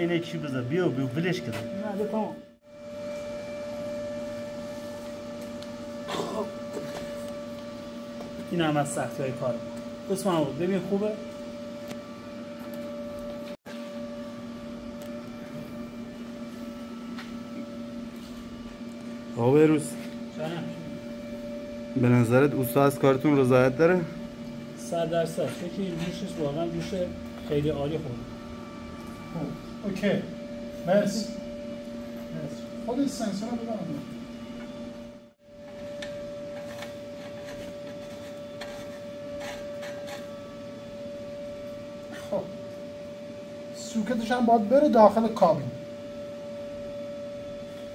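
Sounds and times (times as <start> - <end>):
steady two-tone mechanical hum: 0.0 - 47.9.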